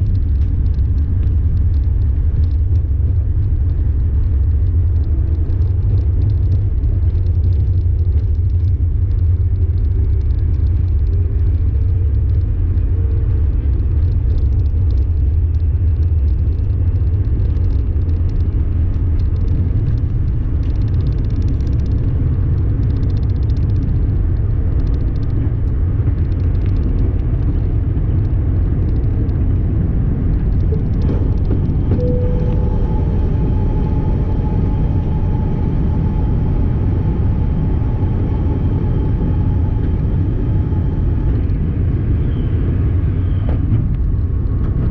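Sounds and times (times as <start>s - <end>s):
airplane cabin engine rumble: 0.0s - 44.9s.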